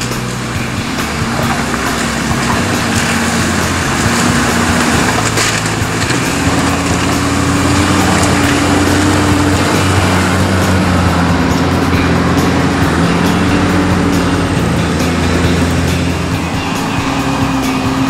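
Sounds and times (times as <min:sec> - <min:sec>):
diesel engine pulling slowly: 0:00.0 - 0:18.0
tyres splashing through water: 0:00.0 - 0:18.0.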